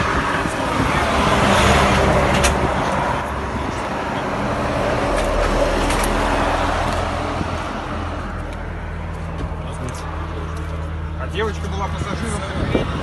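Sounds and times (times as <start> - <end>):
highway traffic: 0.0 - 13.0.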